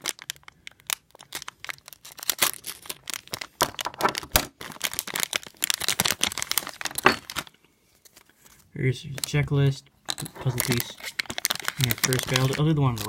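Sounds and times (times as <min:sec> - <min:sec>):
plastic wrapper crinkling: 0:00.0 - 0:09.5, 0:10.1 - 0:13.0.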